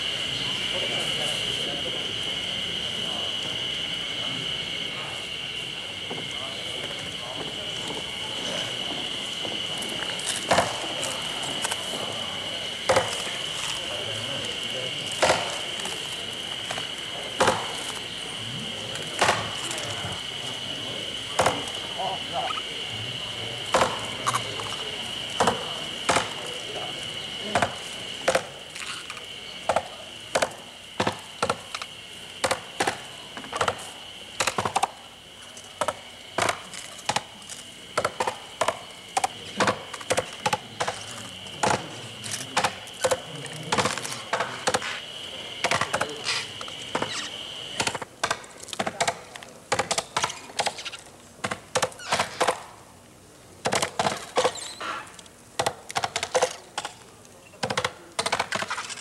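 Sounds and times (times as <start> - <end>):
steady high whine: 0.0 - 59.0.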